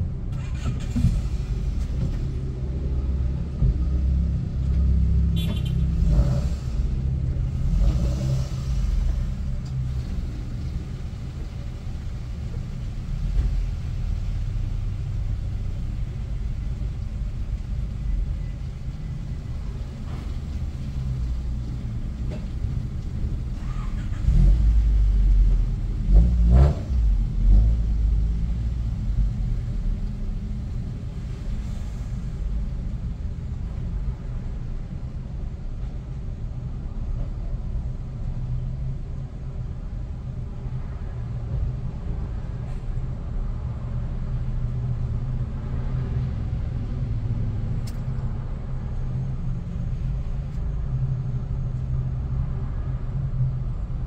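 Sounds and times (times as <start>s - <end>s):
rumbling and bumps: 0.0s - 52.0s.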